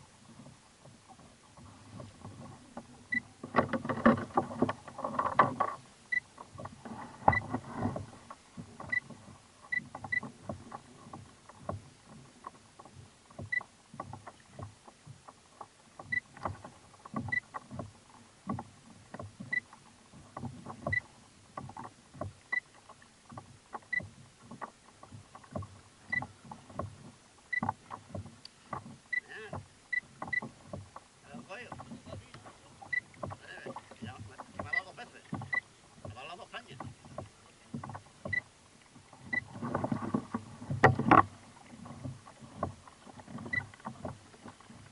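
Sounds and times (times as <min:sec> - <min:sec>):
knocks and clicks on kayak: 0:00.0 - 0:44.9
water lapping against hull: 0:00.0 - 0:44.9.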